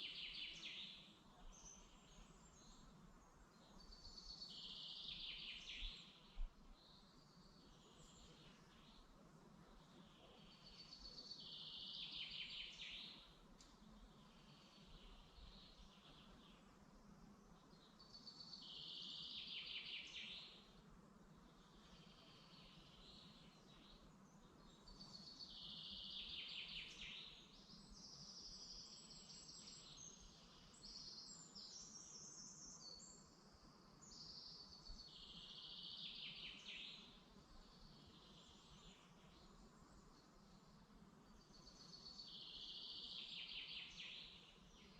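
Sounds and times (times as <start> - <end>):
faint steady background noise: 0.0 - 44.9
songbirds singing: 0.0 - 44.9.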